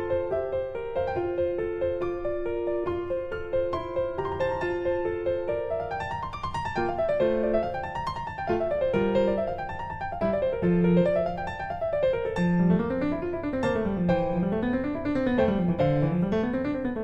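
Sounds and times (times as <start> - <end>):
piano arpeggios: 0.0 - 17.0.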